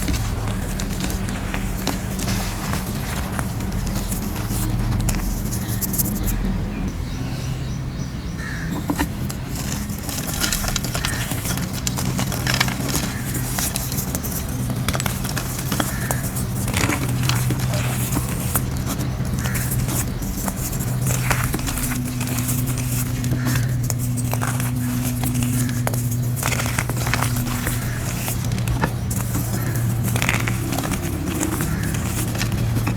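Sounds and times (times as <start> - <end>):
chalk being crushed and crumbled: 0.0 - 6.2, 8.8 - 32.9
steady low hum: 0.0 - 32.9.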